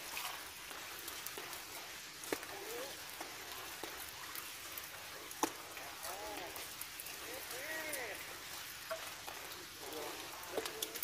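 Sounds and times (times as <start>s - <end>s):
moving water hiss: 0.0s - 11.0s
small ticks and drips: 0.0s - 11.0s.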